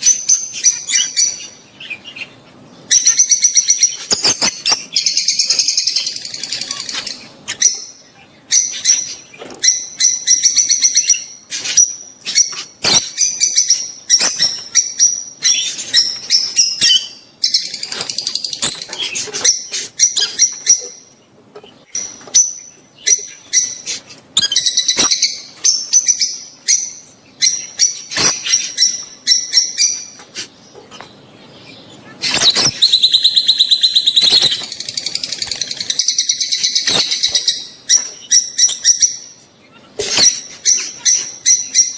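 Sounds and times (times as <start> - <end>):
birds chattering: 0.0 - 41.9
lovebirds chirping: 0.0 - 41.9.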